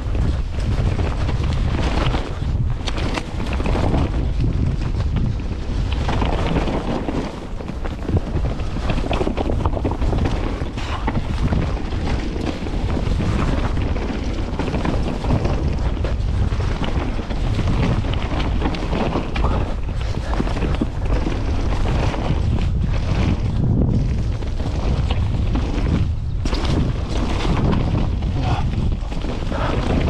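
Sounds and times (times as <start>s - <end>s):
steady low rumble: 0.0s - 6.7s, 7.6s - 30.0s
bike knocks and clatter: 0.0s - 30.0s
wind buffeting microphone: 0.0s - 30.0s.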